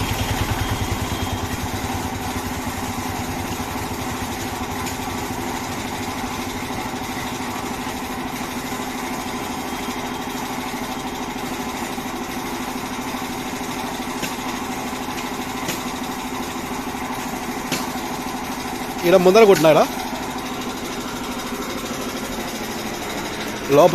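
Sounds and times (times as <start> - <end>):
machine humming: 0.0 - 23.9.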